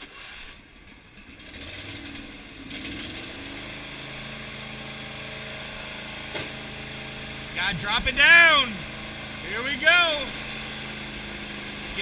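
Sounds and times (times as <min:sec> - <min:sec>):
tractor engine cranking and idling: 0:00.0 - 0:12.0.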